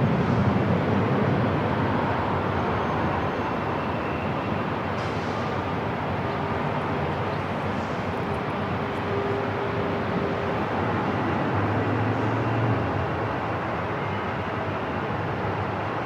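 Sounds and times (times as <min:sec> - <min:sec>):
airport rumbling noise: 0:00.0 - 0:16.0.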